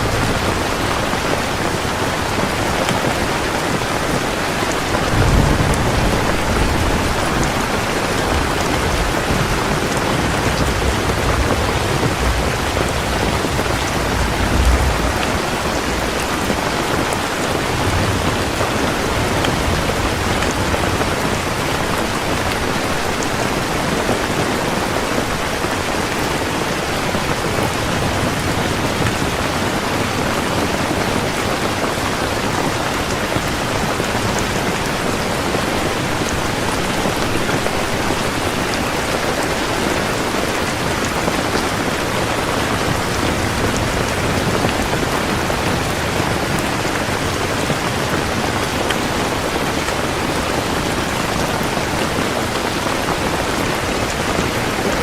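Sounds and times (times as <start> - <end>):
heavy rain falling: 0.0 - 55.0
thunder rumbling: 0.0 - 55.0.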